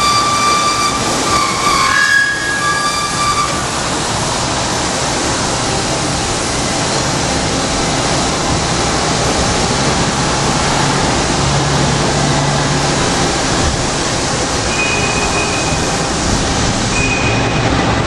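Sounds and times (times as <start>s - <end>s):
band saw running: 0.0s - 18.0s.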